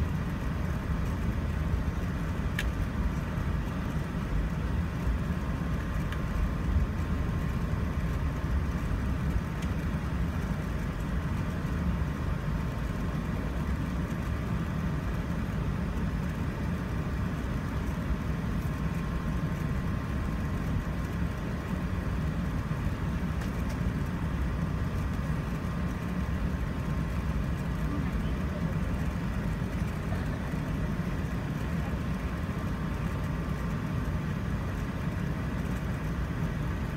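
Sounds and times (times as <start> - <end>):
airplane cabin low rumble: 0.0 - 36.9
faint high engine whine: 0.0 - 36.9.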